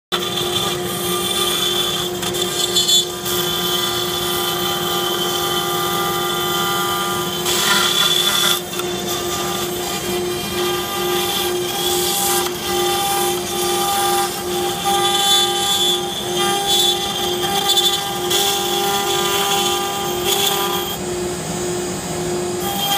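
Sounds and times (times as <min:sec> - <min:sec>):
router spindle high whine: 0:00.1 - 0:22.9
hiss of bit cutting plywood: 0:00.2 - 0:21.0, 0:21.8 - 0:22.9.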